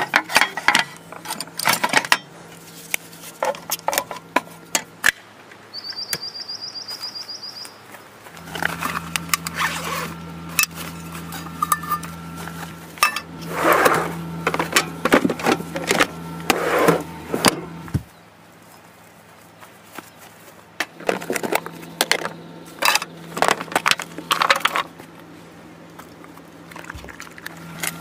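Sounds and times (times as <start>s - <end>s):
steady low hum: 0.0s - 5.7s, 8.2s - 28.0s.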